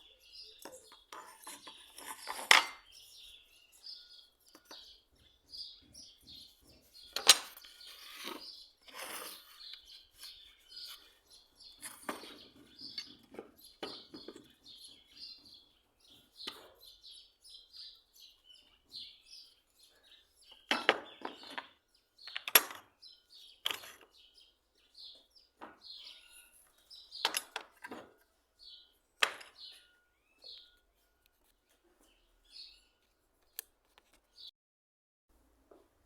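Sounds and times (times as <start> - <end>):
small birds chirping: 0.0 - 34.5.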